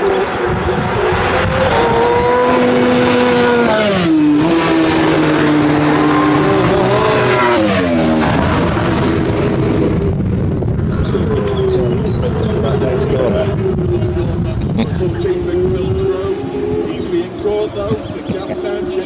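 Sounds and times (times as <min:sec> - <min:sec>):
racing motorcycles passing: 0:00.0 - 0:19.0.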